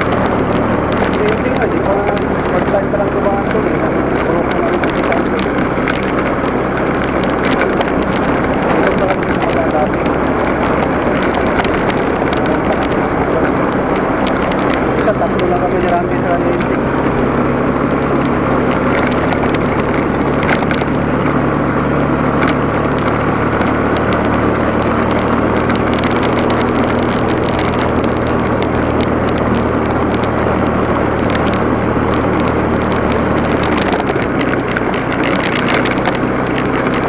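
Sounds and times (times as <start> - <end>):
motorcycle engine running: 0.0 - 37.0
road noise: 0.0 - 37.0
wind: 0.0 - 37.0.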